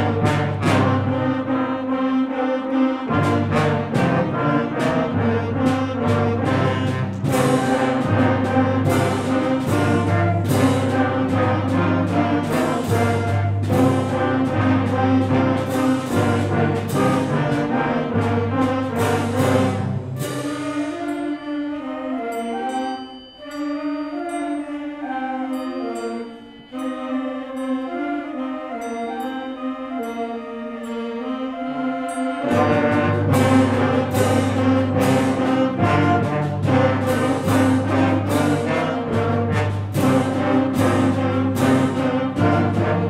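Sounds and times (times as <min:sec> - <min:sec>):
concert band playing: 0:00.0 - 0:29.2, 0:31.2 - 0:43.0
held brass chords: 0:00.0 - 0:43.0
percussion strikes: 0:03.1 - 0:43.0.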